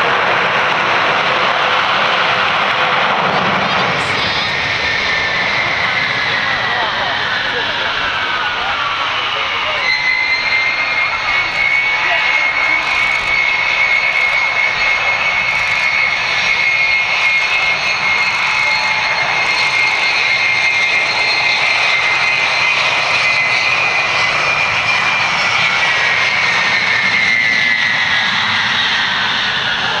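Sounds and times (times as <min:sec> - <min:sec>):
jet engines roaring with high whine: 0:00.0 - 0:30.0.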